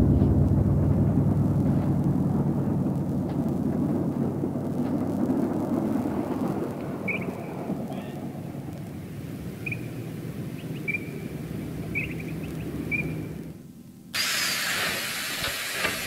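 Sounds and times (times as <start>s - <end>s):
train carriages running on rails: 1.2s - 16.0s.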